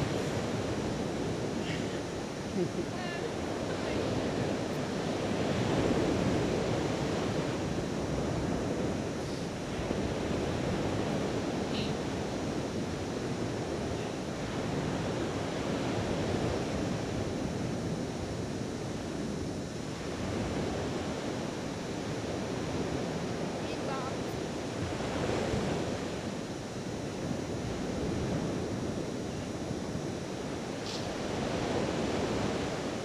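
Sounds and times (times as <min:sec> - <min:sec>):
surf breaking on a sandy beach: 0:00.0 - 0:33.0
wind on the microphone: 0:00.0 - 0:33.0.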